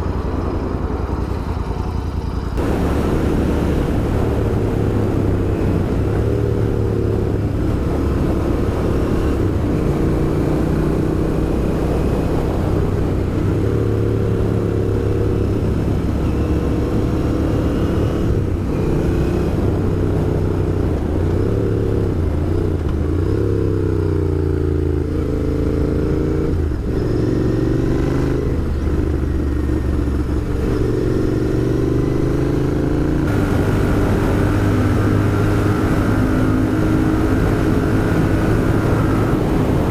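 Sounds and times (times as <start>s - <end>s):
motorcycle engine revving: 2.6s - 39.9s.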